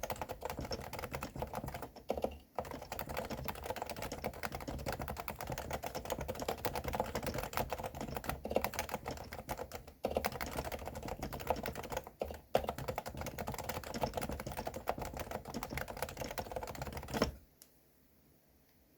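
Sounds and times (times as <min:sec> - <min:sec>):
fast keyboard typing: 0:00.0 - 0:17.4.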